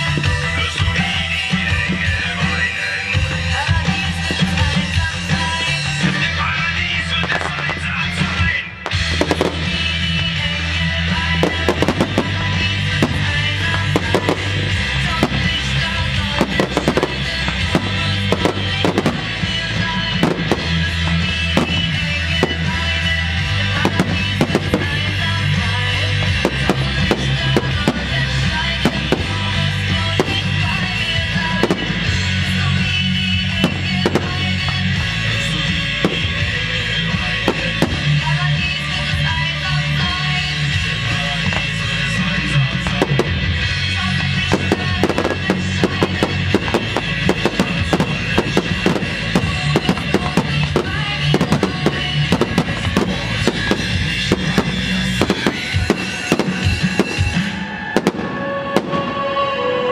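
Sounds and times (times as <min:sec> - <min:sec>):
fireworks bursting: 0:00.0 - 0:59.9
loud music: 0:00.0 - 0:59.9.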